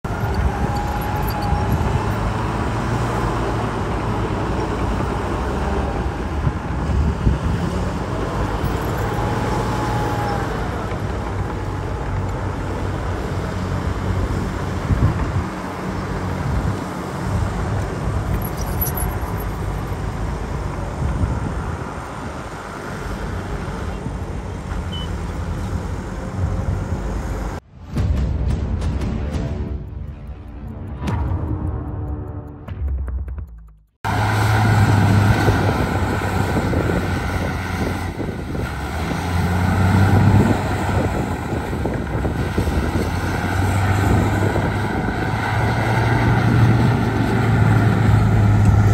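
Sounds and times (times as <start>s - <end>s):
diesel engines rumbling: 0.0s - 27.6s, 34.0s - 48.9s.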